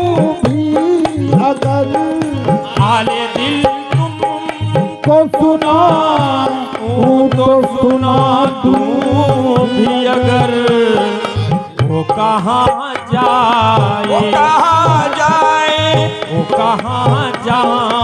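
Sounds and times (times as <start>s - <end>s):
person singing: 0.0s - 18.0s
tabla beat: 0.0s - 18.0s.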